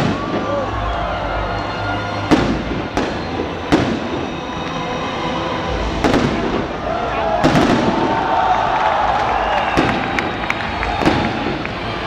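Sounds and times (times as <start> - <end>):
fireworks bursting: 0.0 - 1.1, 2.1 - 12.0.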